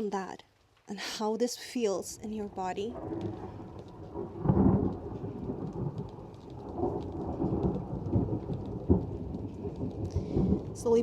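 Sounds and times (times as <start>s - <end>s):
steady rain: 0.0s - 11.0s
raindrop ticks: 0.4s - 1.0s, 1.8s - 11.0s
thunder rumbling: 2.0s - 11.0s.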